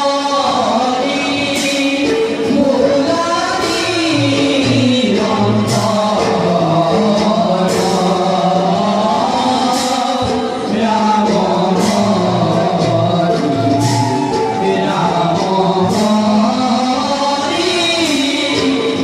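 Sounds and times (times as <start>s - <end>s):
men singing devotional song: 0.0s - 19.0s.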